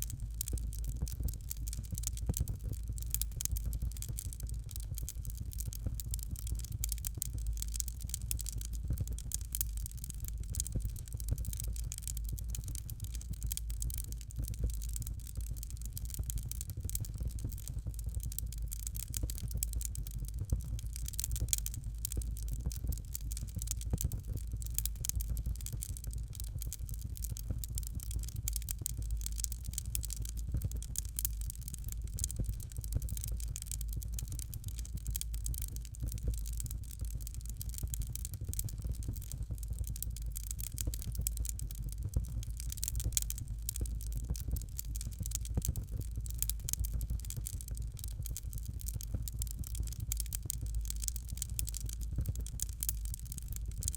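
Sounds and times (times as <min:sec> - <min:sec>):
fire crackling: 0:00.0 - 0:53.9.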